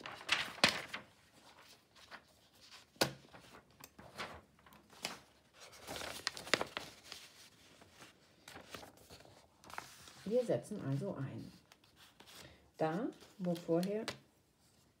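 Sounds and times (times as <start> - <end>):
paper sheets rustling: 0.0 - 14.9.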